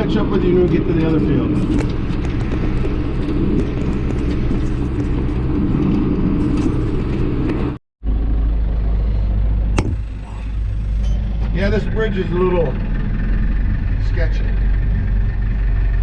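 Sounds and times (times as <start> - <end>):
tractor engine droning: 0.0 - 16.0.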